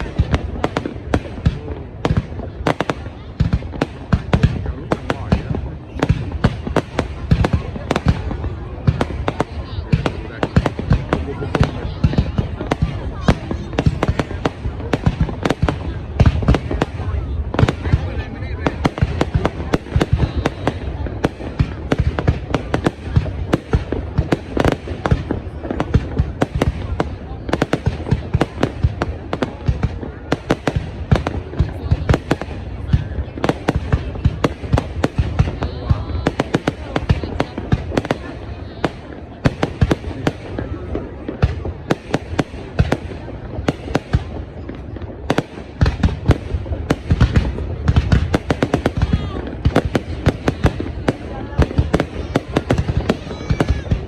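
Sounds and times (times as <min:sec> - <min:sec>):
fireworks bangs: 0:00.0 - 0:54.0
fireworks rumble and crackle: 0:00.0 - 0:54.0.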